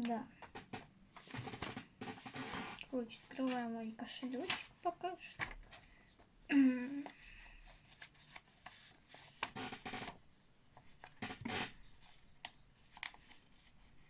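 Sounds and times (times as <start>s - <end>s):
stiff paper rustling: 1.1s - 6.0s, 7.0s - 14.0s.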